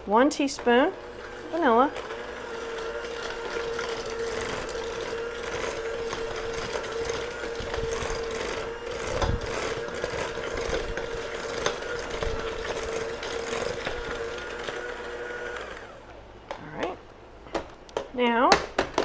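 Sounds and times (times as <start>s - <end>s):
electric hand mixer whining: 0.5s - 16.3s.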